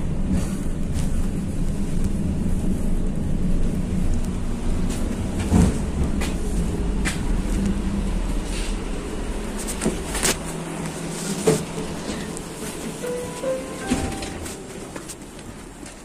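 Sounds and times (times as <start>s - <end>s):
knocks and rattles of tram car: 0.0s - 16.0s
tram rumble: 0.0s - 16.0s.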